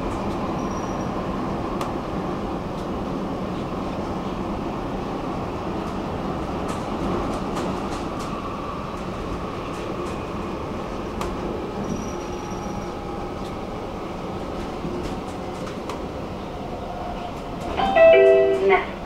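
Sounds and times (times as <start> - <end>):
metro train rumbling on rails: 0.0 - 19.0.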